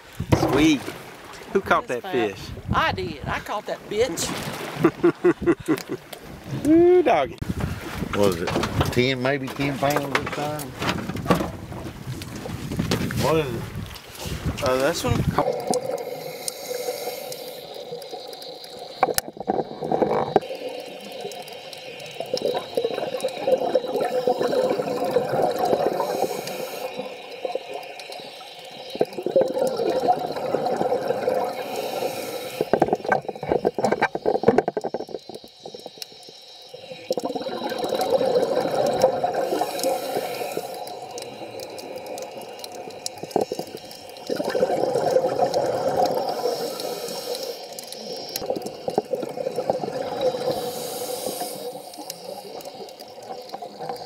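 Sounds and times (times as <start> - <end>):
underwater bubbles gurgling: 9.7 - 54.0.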